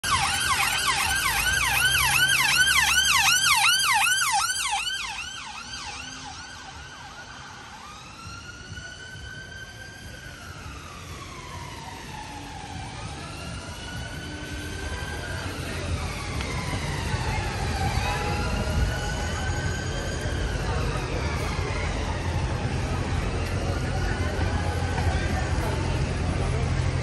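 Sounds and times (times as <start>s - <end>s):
siren wail: 0.0s - 26.9s
ambulance siren yelp: 0.0s - 27.0s.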